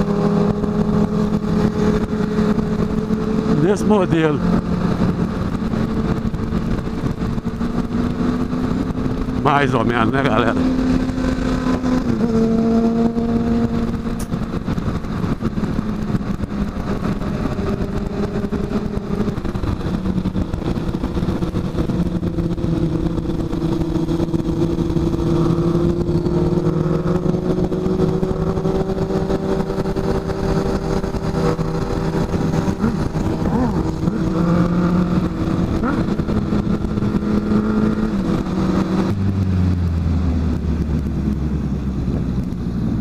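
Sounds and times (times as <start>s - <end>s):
motorcycle engine cruising: 0.0s - 43.0s
wind rush on microphone: 0.0s - 43.0s.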